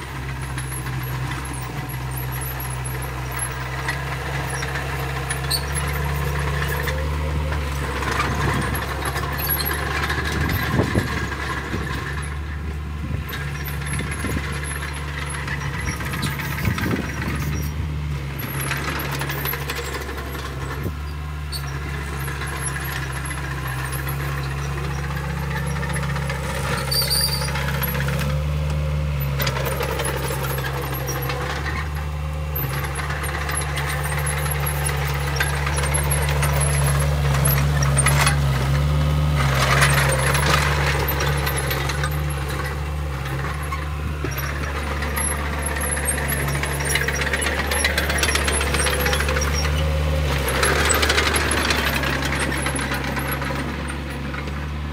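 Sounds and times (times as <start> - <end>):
bulldozer diesel engine running: 0.0 - 54.9
tracks and blade clanking: 0.0 - 54.9.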